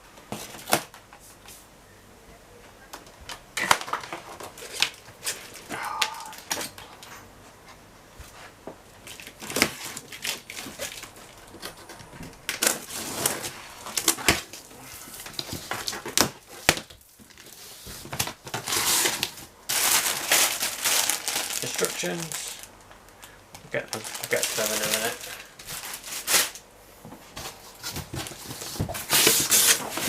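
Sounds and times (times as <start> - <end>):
packaging rustling and scraping: 3.6 - 7.3, 8.3 - 22.7, 23.7 - 30.0.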